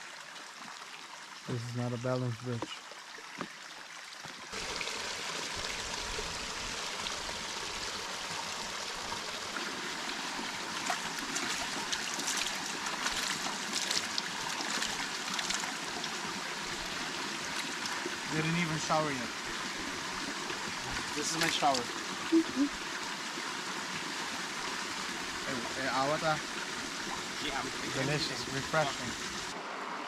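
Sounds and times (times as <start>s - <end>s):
stream water splashing over rocks: 0.0s - 30.0s.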